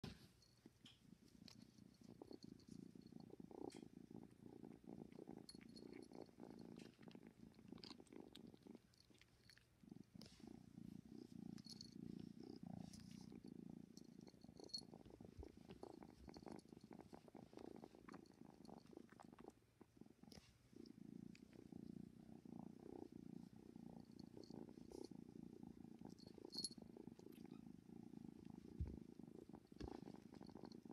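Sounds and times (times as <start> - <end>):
kitten purring: 0.0 - 30.9.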